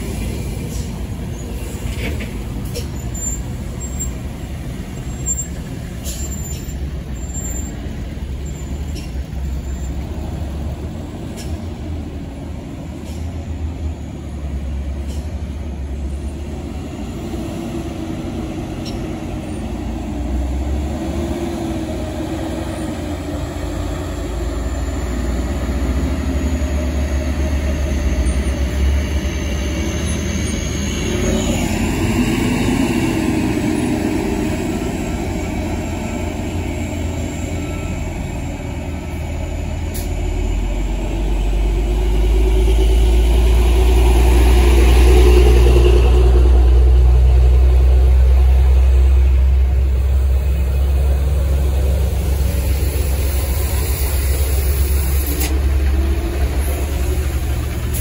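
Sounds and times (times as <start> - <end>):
diesel truck engine: 0.0 - 58.0
road traffic passing: 0.0 - 58.0.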